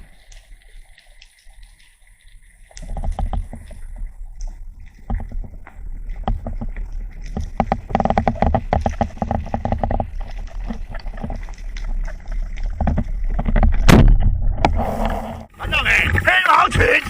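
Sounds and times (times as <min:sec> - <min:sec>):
dense crackling clicks: 0:00.0 - 0:17.0
water sloshing and splashing: 0:00.0 - 0:17.0.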